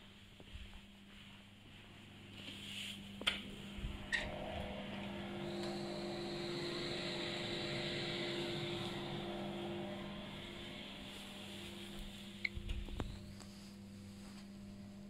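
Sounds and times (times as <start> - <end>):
extractor fan whirring: 2.2 - 15.0.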